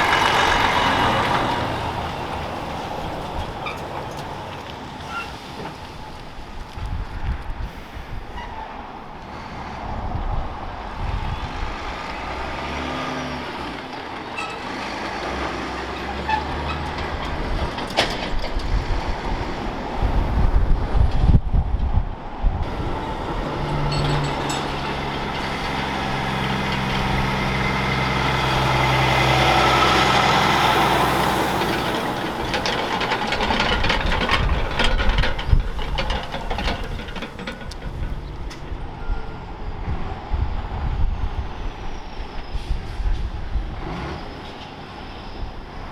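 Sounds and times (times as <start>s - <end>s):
diesel trucks driving past: 0.0s - 45.9s.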